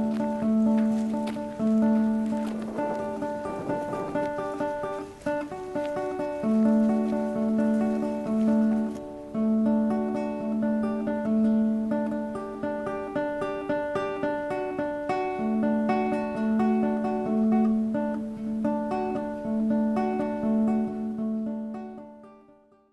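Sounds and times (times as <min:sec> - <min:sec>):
acoustic guitar plucked notes: 0:00.0 - 0:22.9.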